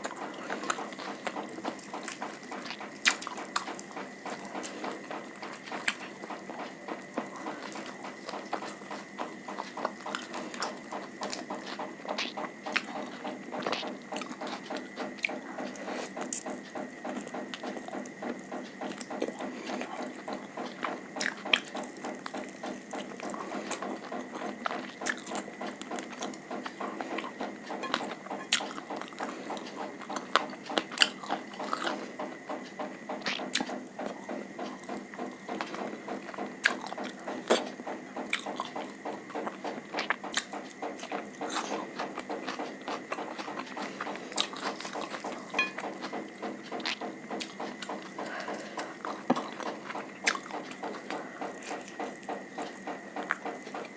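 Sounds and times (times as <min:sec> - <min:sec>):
chewing with wet clicks and crunches: 0:00.0 - 0:53.9.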